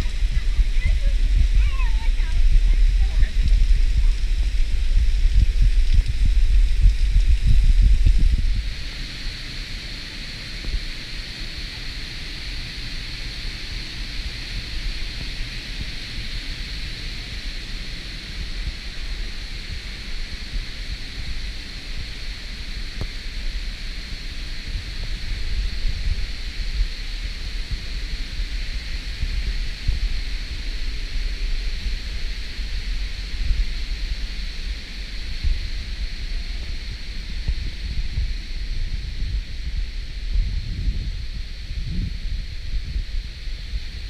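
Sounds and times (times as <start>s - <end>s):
water rushing in creek: 0.0s - 40.2s
wind buffeting microphone: 0.0s - 44.0s.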